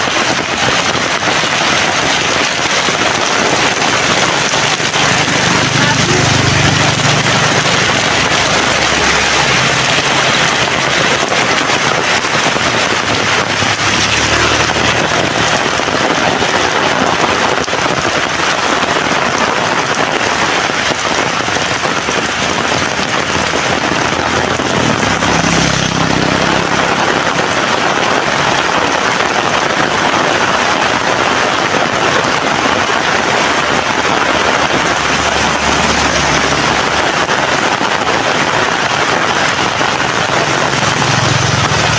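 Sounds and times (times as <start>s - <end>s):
heavy rain downpour: 0.0s - 41.9s.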